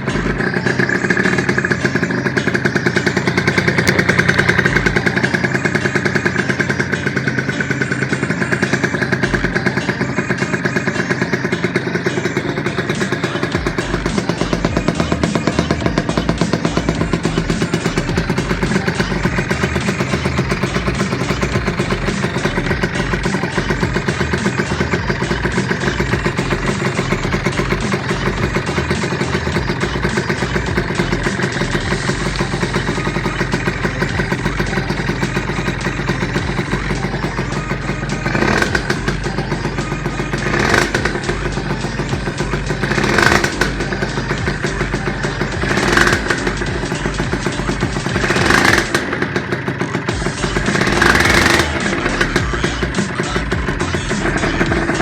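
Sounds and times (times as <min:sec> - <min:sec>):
engine throttle blips: 0:00.0 - 0:55.0
motorcycle engine idling: 0:00.0 - 0:55.0.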